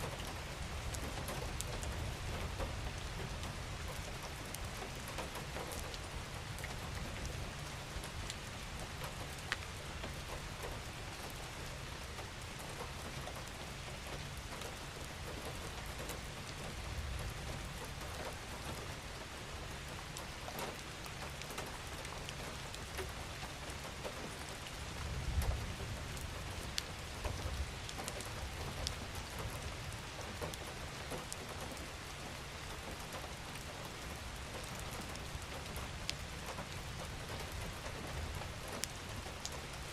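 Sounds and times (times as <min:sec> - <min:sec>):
raindrops ticking: 0:00.0 - 0:39.9
steady rain hissing: 0:00.0 - 0:39.9.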